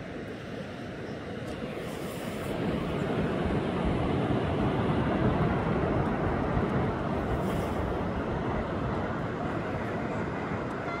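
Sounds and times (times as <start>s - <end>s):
surf breaking on a beach: 0.0s - 11.0s.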